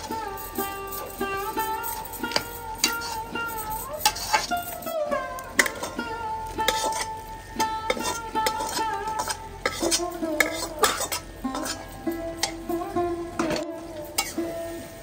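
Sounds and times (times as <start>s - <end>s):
instrumental background music: 0.0s - 15.0s
light sizzling: 0.0s - 15.0s
metal spoon scraping a pan: 0.0s - 15.0s.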